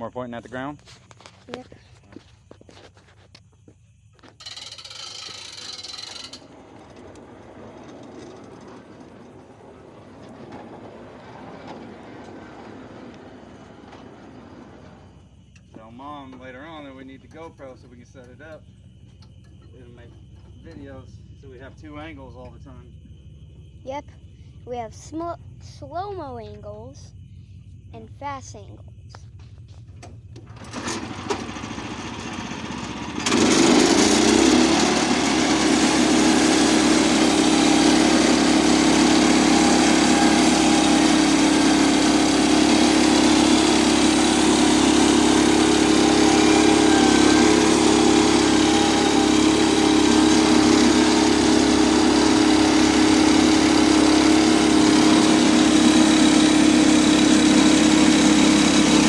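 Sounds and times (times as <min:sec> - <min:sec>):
small gasoline engine running: 0:00.5 - 0:03.2, 0:04.2 - 0:28.0, 0:29.4 - 0:59.0.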